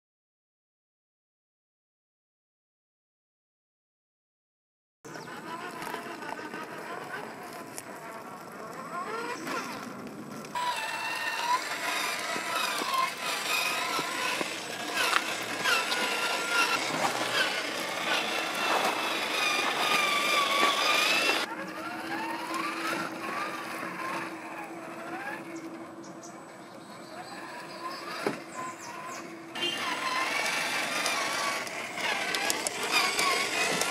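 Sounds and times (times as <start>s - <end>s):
electric motor and gears whining: 5.1s - 33.9s.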